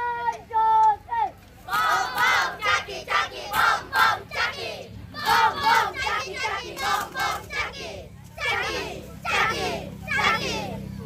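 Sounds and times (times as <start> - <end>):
children chanting a shouted cheer: 1.7 - 10.9.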